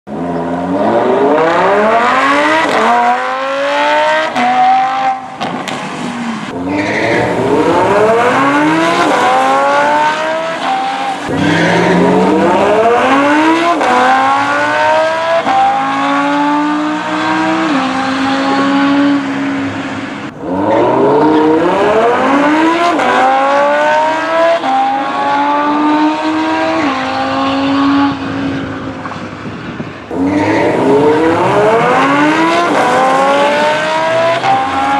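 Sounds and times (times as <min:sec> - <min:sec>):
sports car engine accelerating: 0:00.1 - 0:29.5, 0:30.1 - 0:34.9.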